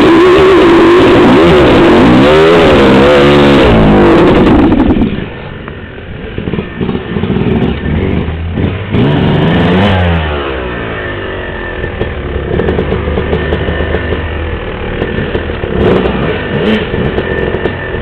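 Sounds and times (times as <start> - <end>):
dirt bike engine revving: 0.0 - 5.4, 6.2 - 18.0.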